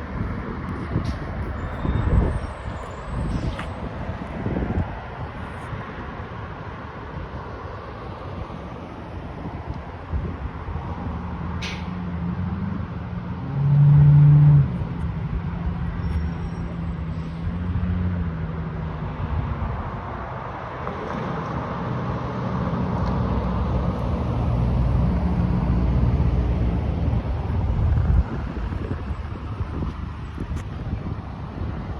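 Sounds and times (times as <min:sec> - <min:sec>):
diesel engines rumbling: 0:00.0 - 0:31.9.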